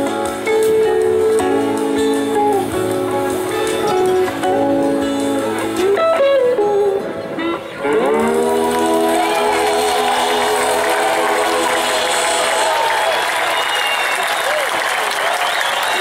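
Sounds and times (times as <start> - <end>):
electric guitar bending notes: 0.0 - 13.0
blues-rock band playing: 0.0 - 13.7.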